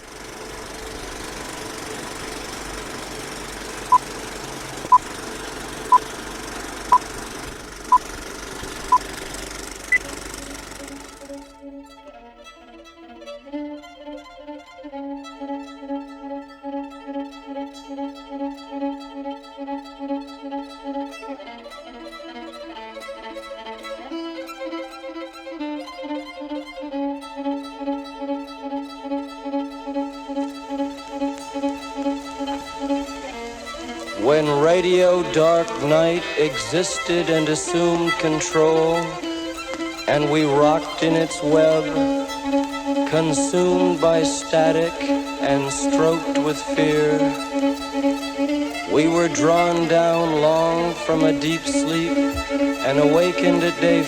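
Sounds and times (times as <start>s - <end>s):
violin music: 0.0s - 54.0s.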